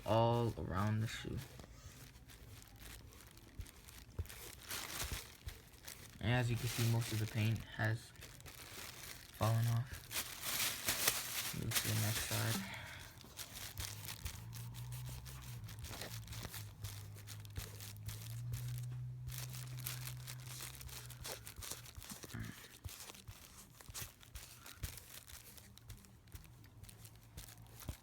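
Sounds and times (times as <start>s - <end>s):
cotton swab scratchy rubbing: 0.0s - 28.0s.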